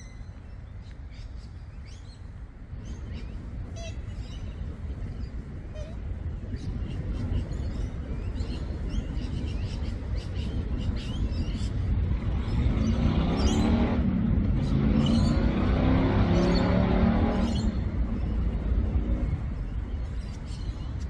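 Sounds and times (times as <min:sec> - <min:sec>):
low engine rumble: 0:00.0 - 0:21.0
small birds chirping: 0:00.0 - 0:21.0.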